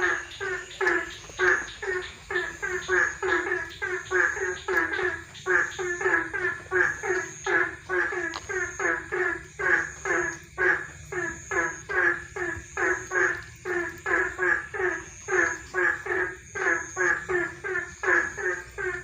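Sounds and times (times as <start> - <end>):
frogs croaking: 0.0 - 19.0
high insect trill: 0.0 - 19.0.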